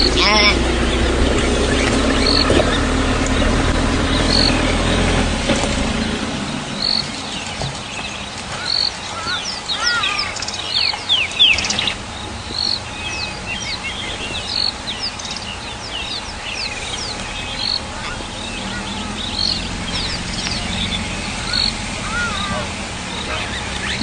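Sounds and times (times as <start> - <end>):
forest birds calling: 0.0 - 24.0
low steady rumble: 0.0 - 24.0.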